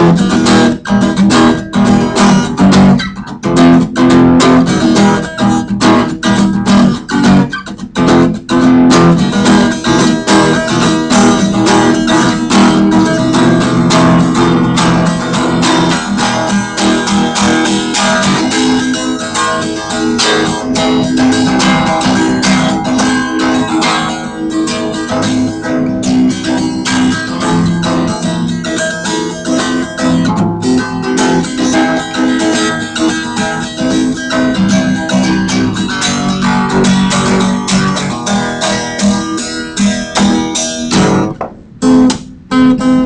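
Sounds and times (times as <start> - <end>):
guitar plucked and strummed: 0.0 - 43.0.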